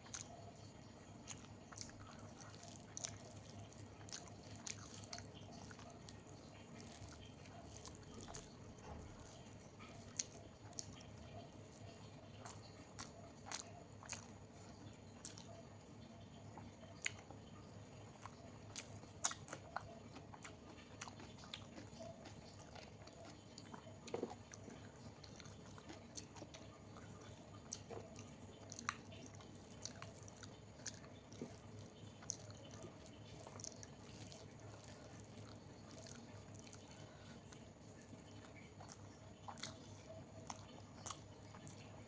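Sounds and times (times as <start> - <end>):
chewing and wet mouth sounds: 0.0 - 42.0.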